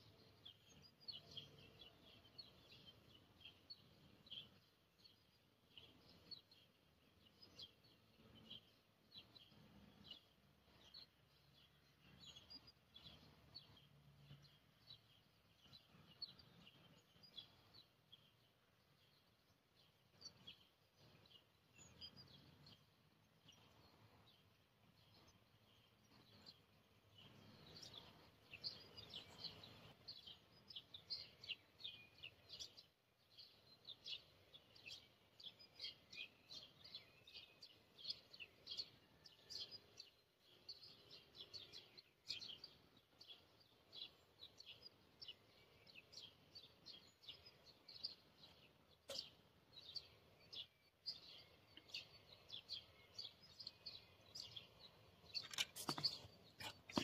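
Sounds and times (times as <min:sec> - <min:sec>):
small birds chirping rapidly: 0:00.0 - 0:57.0.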